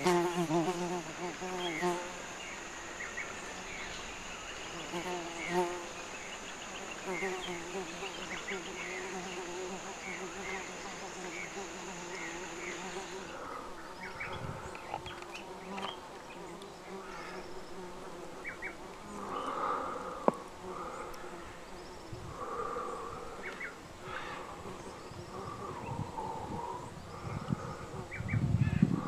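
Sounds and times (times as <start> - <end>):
high-pitched insect whine: 0.0 - 29.0
insects buzzing and droning: 0.0 - 29.0.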